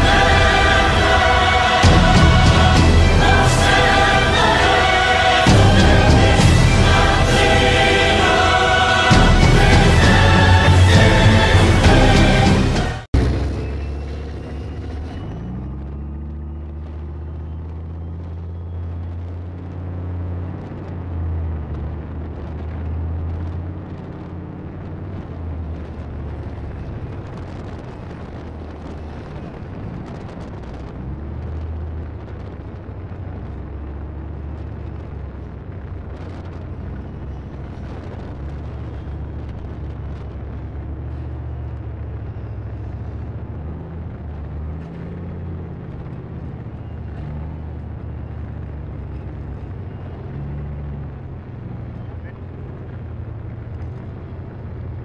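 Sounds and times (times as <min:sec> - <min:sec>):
tank diesel engine drone: 0:00.0 - 0:55.0.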